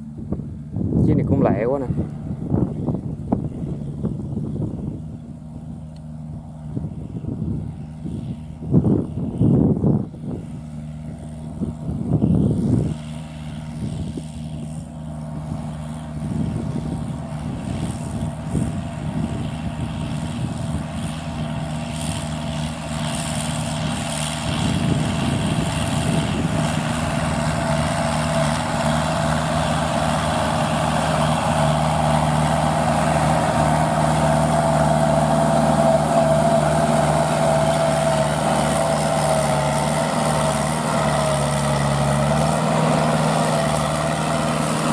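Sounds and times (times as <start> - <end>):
steady whine: 0.0 - 44.9
tractor diesel engine running: 0.0 - 44.9.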